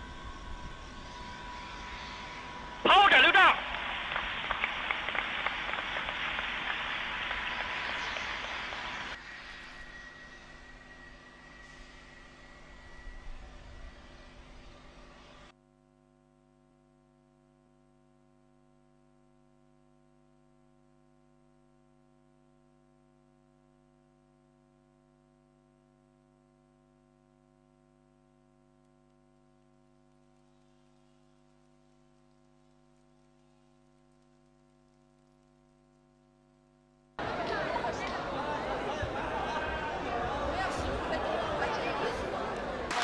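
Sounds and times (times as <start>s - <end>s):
faint electrical hum: 0.0s - 40.1s.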